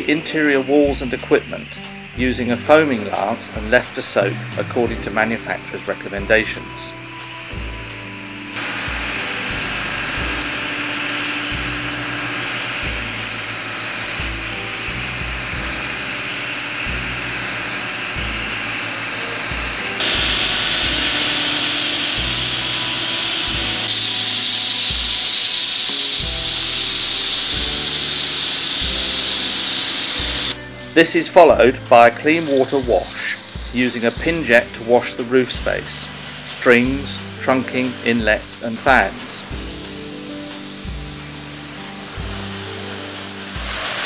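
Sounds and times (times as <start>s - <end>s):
pressure washer spray hissing: 0.0s - 44.0s
soft background music: 0.0s - 44.0s.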